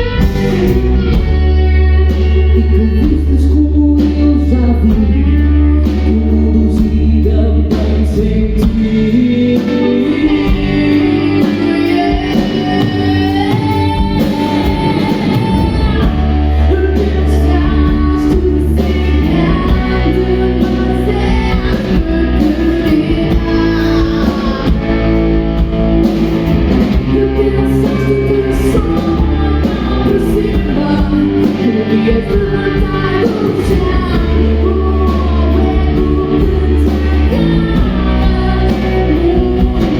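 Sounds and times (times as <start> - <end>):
person singing: 0.0 - 25.4, 26.1 - 39.9
rock band playing: 0.0 - 39.9.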